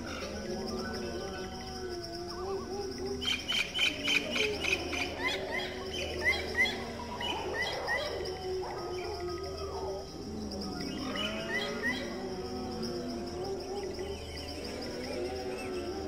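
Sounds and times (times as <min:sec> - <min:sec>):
faint steady hum: 0:00.0 - 0:16.0
small birds chirping: 0:00.0 - 0:16.0.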